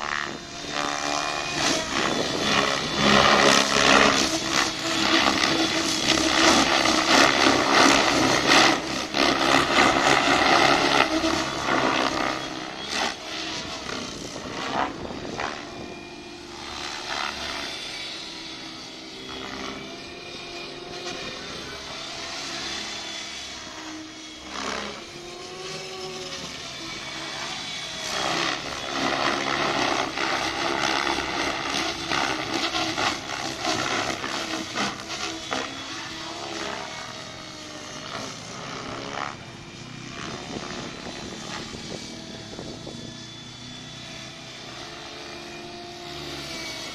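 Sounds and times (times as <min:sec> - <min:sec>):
model helicopter rotor whine: 0:00.0 - 0:46.9.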